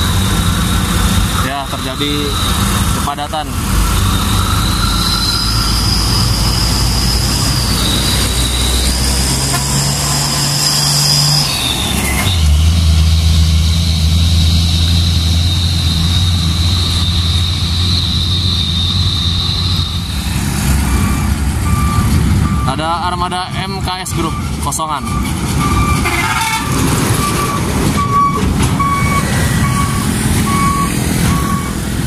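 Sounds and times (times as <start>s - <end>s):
diesel truck engines running: 0.0s - 32.0s.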